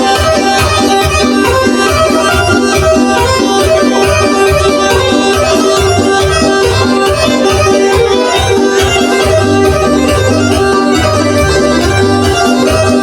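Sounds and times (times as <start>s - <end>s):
instrumental music with fast beat: 0.0s - 13.0s.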